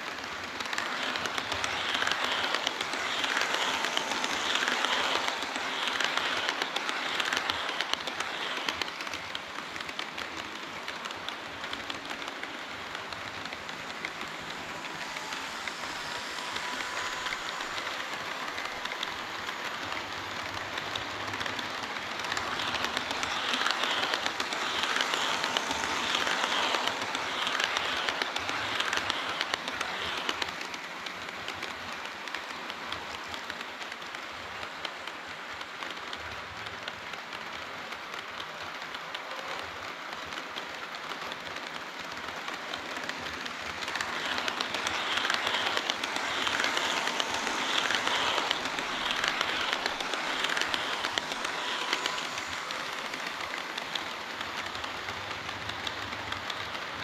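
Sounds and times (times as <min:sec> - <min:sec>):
model train wheels clattering: 0:00.0 - 0:57.0.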